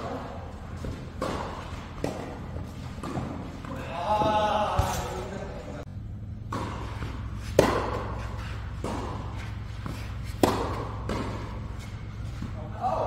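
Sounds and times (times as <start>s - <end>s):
racket hitting tennis ball: 0.0s - 5.2s, 6.3s - 12.6s.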